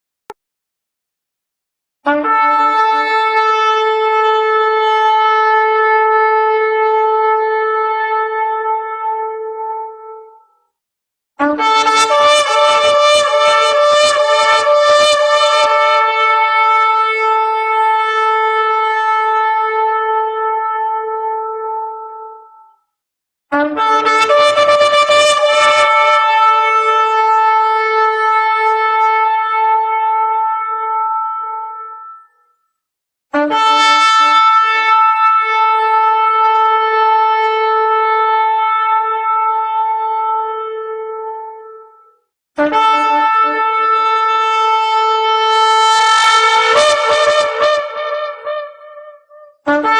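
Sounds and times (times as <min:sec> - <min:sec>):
shofar blast: 0:02.1 - 0:10.1, 0:11.4 - 0:22.2, 0:23.5 - 0:32.3, 0:33.4 - 0:41.6, 0:42.6 - 0:49.9.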